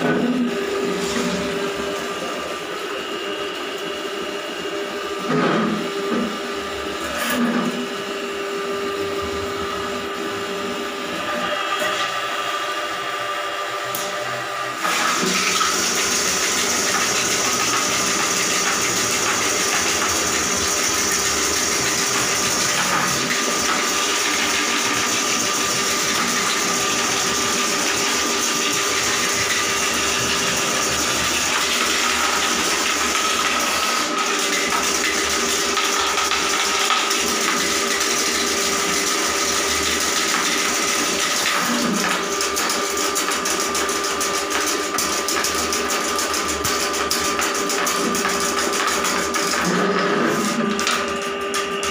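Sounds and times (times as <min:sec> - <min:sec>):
drain cleaning machine running: 0:00.0 - 0:51.9.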